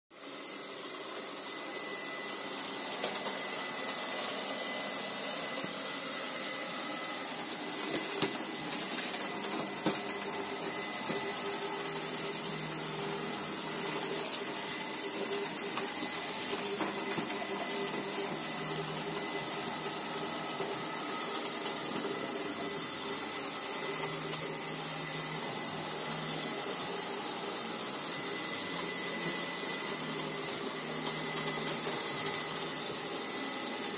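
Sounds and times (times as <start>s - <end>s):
robot vacuum cleaner whirring: 0.2s - 33.9s.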